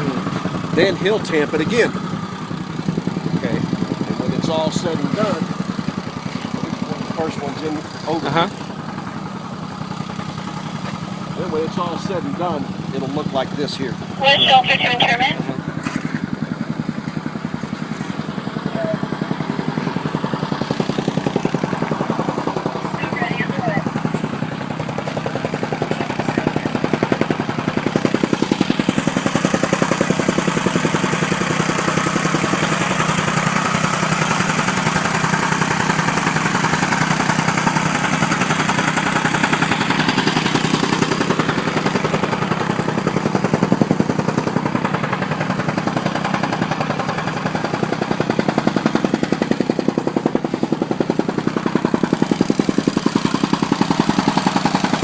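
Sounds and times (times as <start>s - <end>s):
soil tamper engine pounding: 0.0s - 55.0s.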